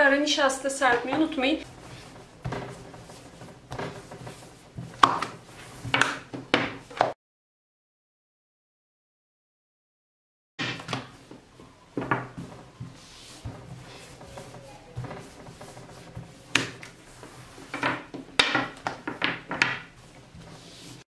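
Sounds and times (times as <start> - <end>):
rolling pin rolling dough: 0.1 - 7.2, 10.6 - 21.0.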